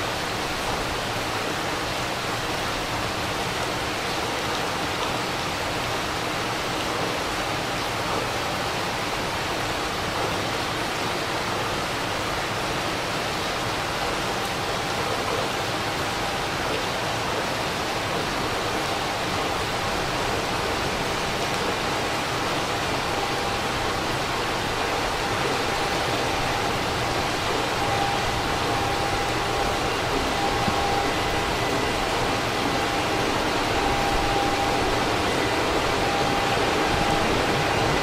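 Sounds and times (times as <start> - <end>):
faint steady whine: 0.0 - 38.0
heavy rain falling: 0.0 - 38.0.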